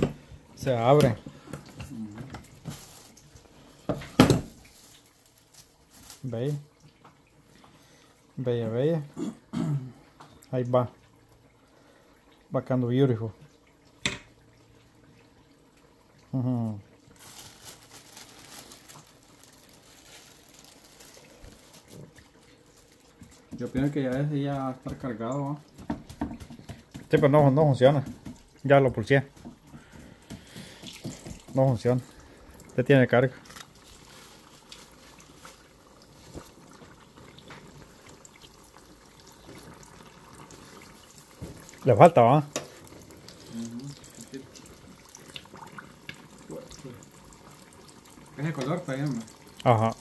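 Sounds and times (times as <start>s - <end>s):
hot oil sizzling and crackling: 0.0s - 9.1s, 16.3s - 50.0s.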